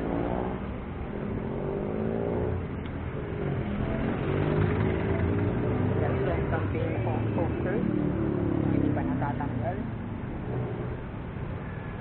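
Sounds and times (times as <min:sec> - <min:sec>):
vehicle engine accelerating: 0:00.0 - 0:11.3
steady low traffic rumble: 0:00.0 - 0:12.0.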